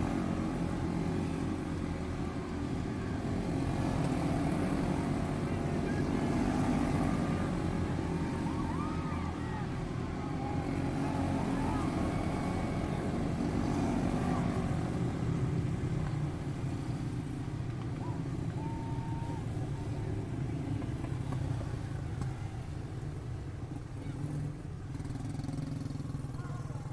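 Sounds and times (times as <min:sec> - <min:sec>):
small race car engines buzzing: 0:00.0 - 0:26.9.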